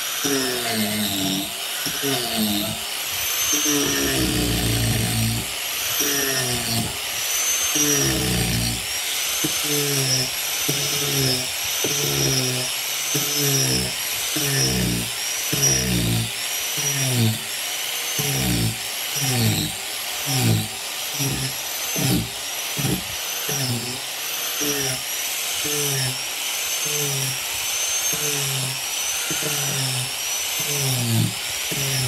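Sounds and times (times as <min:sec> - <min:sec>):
angle grinder cutting wood: 0:00.0 - 0:32.0.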